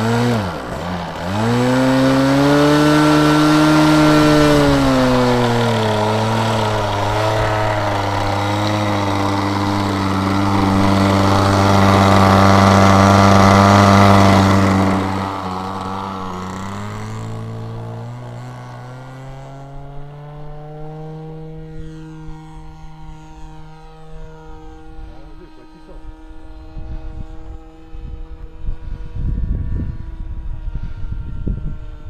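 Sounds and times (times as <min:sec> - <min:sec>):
model plane engine: 0:00.0 - 0:32.0.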